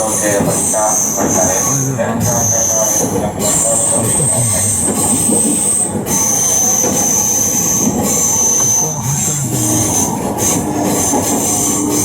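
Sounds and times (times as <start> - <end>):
high-pitched wheel squeal: 0.0 - 12.0
train running noise: 0.0 - 12.0.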